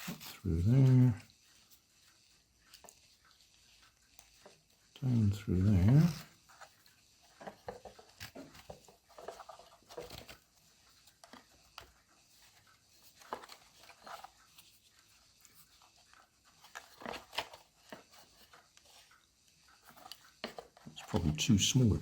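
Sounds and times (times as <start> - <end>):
strap rustling: 0.0 - 22.0.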